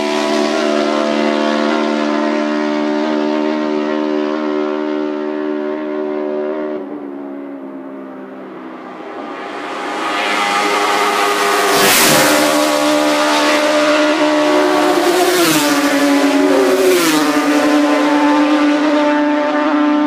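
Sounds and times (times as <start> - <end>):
racing motorcycles passing: 0.0 - 20.0.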